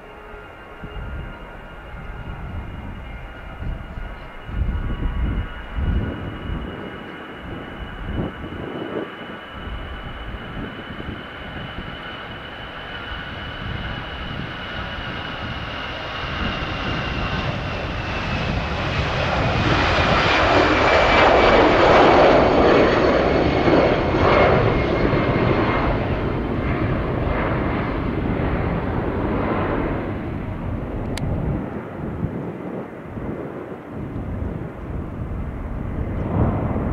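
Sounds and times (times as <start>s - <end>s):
jet engines roaring at takeoff: 0.0s - 36.9s.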